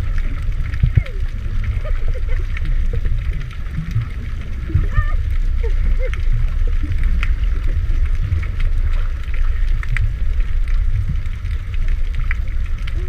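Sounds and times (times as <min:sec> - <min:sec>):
small clicks and pops: 0:00.0 - 0:13.0
underwater low rumble: 0:00.0 - 0:13.0.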